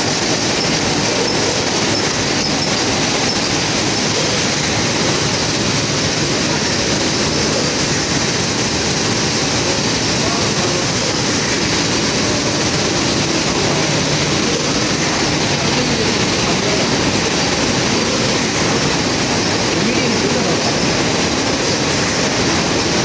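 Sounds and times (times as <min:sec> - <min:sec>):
machine mechanical clatter: 0:00.0 - 0:23.0.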